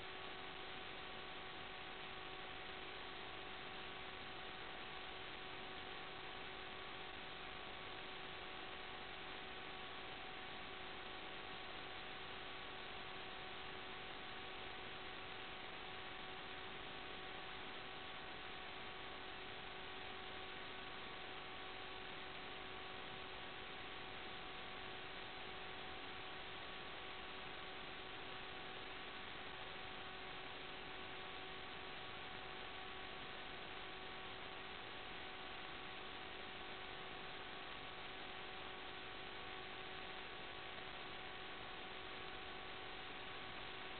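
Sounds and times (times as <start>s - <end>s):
faint hum tones: 0.0s - 43.9s
static hiss: 0.0s - 43.9s.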